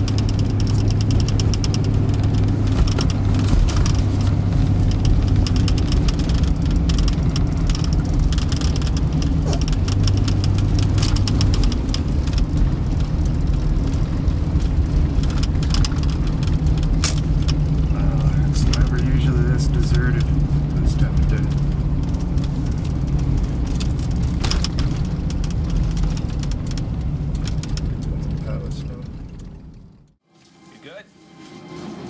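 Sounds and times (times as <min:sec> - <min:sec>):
car engine running: 0:00.0 - 0:30.2.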